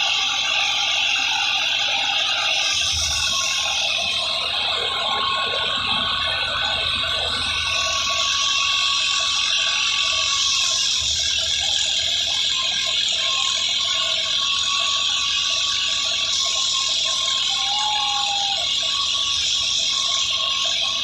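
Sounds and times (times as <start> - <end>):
tractor whine and rumble: 0.0 - 21.0.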